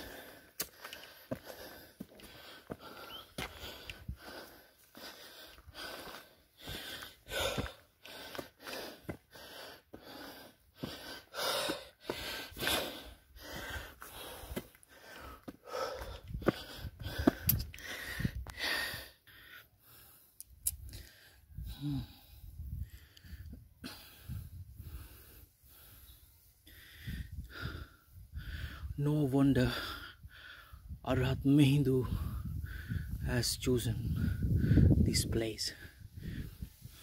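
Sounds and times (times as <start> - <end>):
person breathing heavily: 0.0 - 29.0, 29.6 - 31.0, 32.0 - 33.2, 34.0 - 35.0, 35.7 - 37.0.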